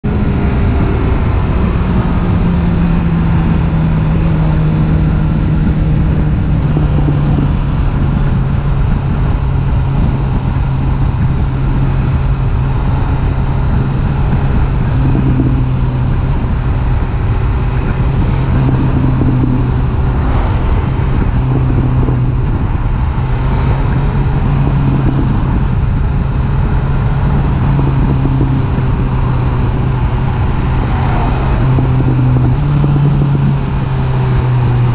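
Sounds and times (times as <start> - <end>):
motorcycle engine cruising: 0.0 - 34.9
wind rushing over microphone: 0.0 - 34.9.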